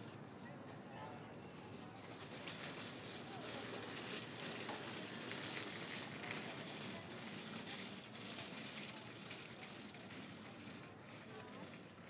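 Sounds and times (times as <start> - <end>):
street market bustle: 0.0 - 12.0.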